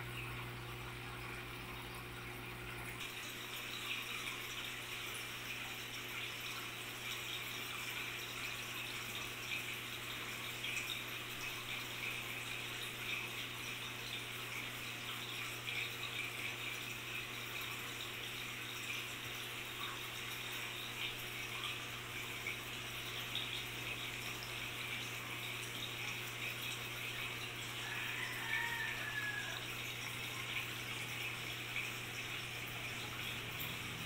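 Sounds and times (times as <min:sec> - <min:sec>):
low steady hum: 0:00.0 - 0:27.9
aquarium water trickling: 0:00.0 - 0:34.0.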